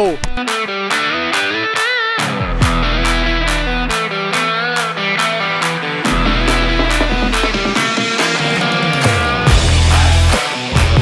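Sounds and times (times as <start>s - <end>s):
guitar over a steady beat: 0.0s - 11.0s.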